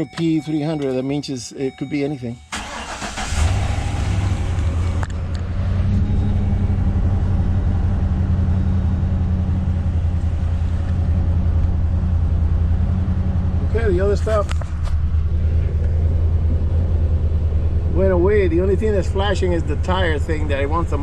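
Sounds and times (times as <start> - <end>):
pickup engine starting and idling: 2.5 - 21.0.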